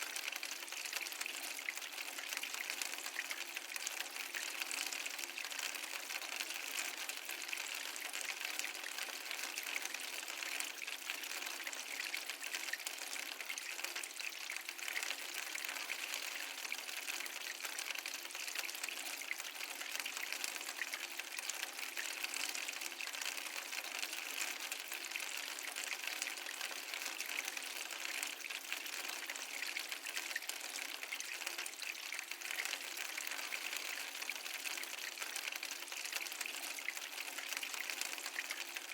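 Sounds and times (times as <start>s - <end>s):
water flowing and trickling: 0.0s - 38.9s.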